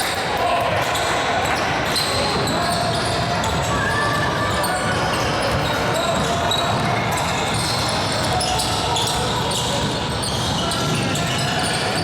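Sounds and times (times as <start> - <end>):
voices in a hall: 0.0 - 12.0.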